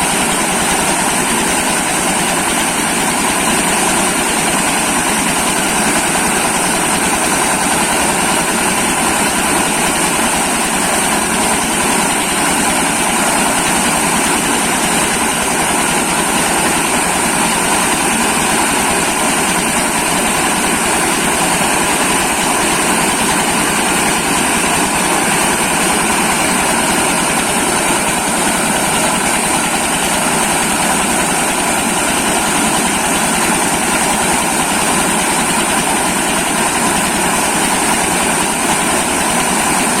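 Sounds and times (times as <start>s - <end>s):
corn milling machine running: 0.0s - 40.0s.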